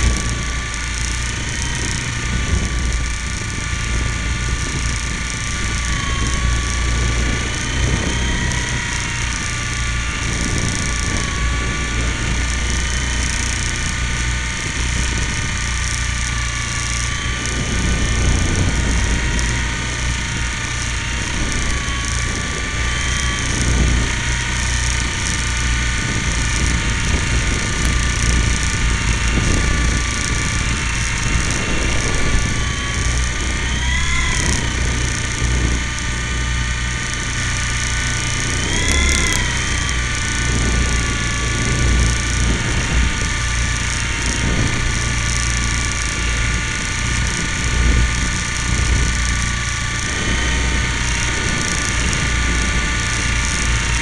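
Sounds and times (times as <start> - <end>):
rotor wash rumble: 0.0 - 54.0
toy helicopter motor whining: 0.0 - 54.0.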